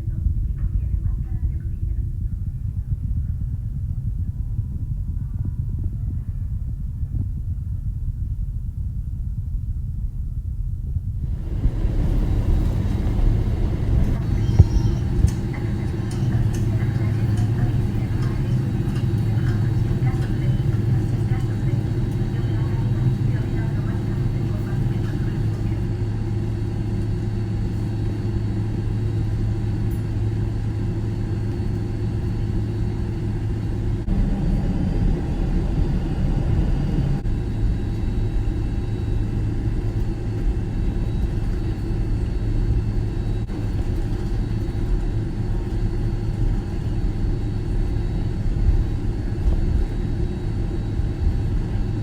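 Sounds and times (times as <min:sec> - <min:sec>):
airliner engine and cabin hum: 0:00.0 - 0:10.0, 0:10.9 - 0:52.0
deep rumble: 0:00.0 - 0:52.0.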